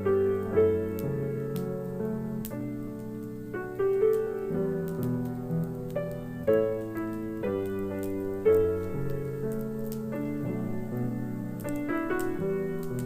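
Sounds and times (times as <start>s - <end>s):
solo piano ballad: 0.0s - 13.0s
wood fire crackling: 0.0s - 13.0s.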